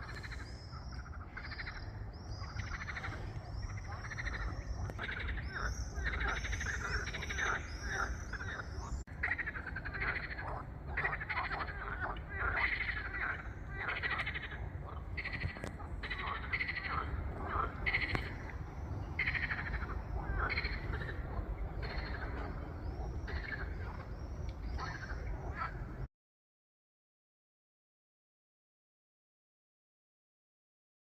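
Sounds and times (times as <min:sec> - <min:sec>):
frogs croaking: 0:00.0 - 0:26.1.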